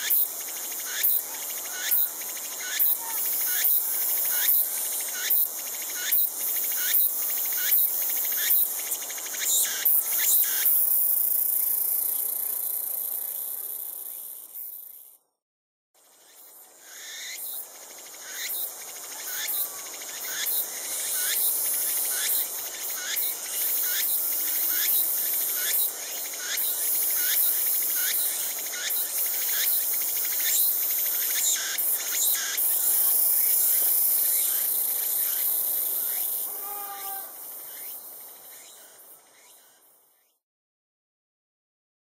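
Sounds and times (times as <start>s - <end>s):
cicada singing: 0.0s - 15.1s, 16.1s - 40.3s.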